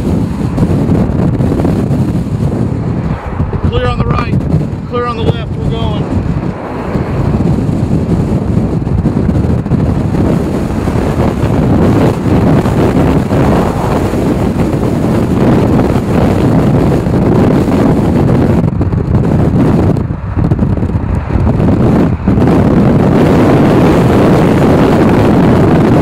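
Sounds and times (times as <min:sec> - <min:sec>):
car engine and road noise: 0:00.0 - 0:26.0
wind rushing over microphone: 0:00.0 - 0:26.0.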